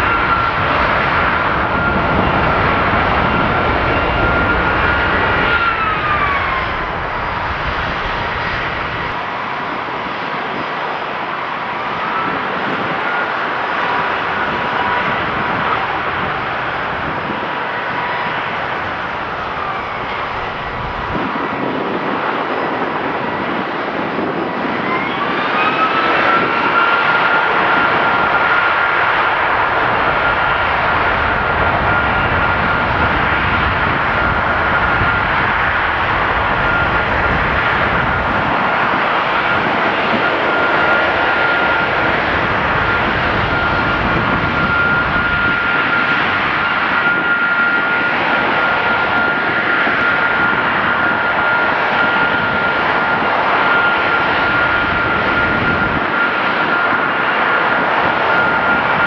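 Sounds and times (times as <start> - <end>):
jet engine whine and roar: 0.0 - 59.0.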